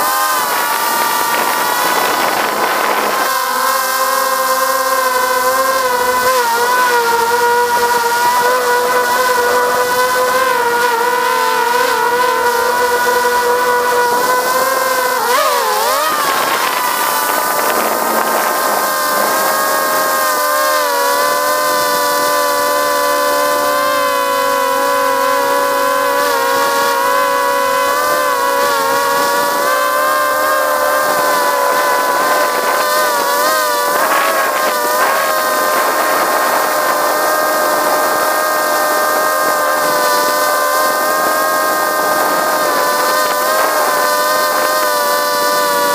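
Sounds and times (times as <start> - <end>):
drone propellers whining: 0.0 - 45.9.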